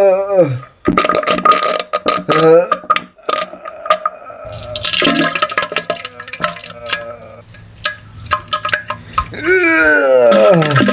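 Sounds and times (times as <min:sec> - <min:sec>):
wet spluttering and splashing: 0:00.8 - 0:09.4, 0:10.2 - 0:10.9.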